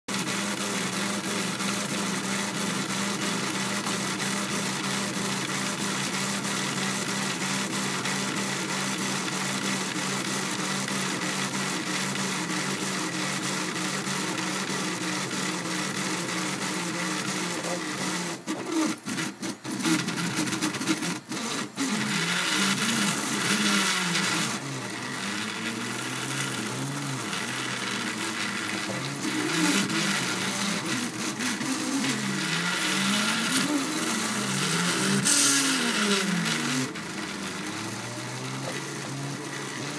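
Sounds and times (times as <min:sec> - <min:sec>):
stepper motors whirring: 0:00.1 - 0:39.9.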